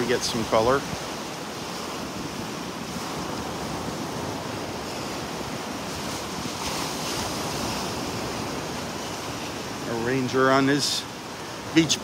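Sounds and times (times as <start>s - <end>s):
wind on microphone: 0.0s - 9.9s
surf washing onto beach: 0.0s - 12.0s.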